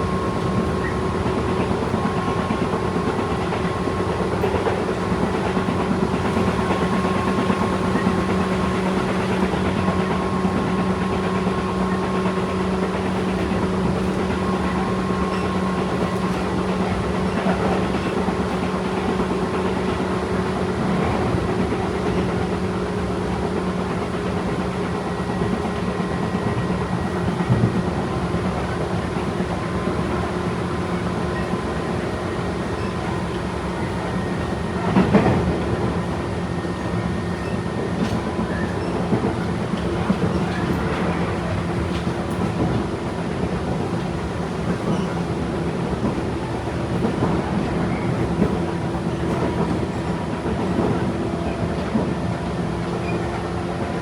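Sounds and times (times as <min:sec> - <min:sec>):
train motor hum: 0:00.0 - 0:54.0
train wheels rumbling on rail: 0:00.0 - 0:54.0.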